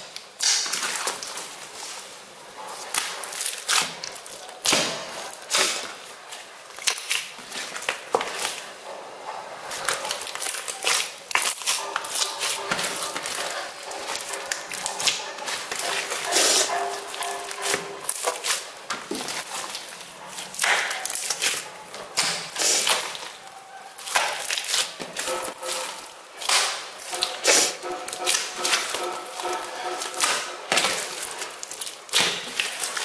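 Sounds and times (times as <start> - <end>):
wet slime squelching: 0.4 - 2.1, 2.7 - 33.0.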